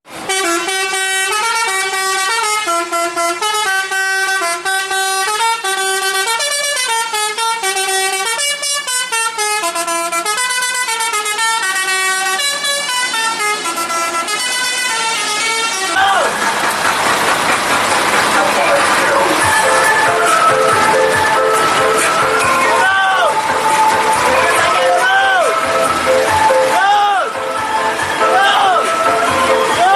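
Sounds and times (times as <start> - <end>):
musical bus air horn melody: 0.1 - 16.4, 19.1 - 29.9.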